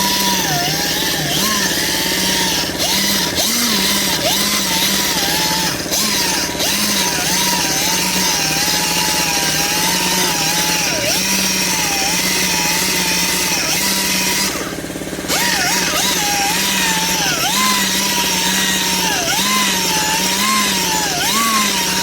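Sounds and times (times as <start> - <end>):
power sander motor whine: 0.0 - 22.0.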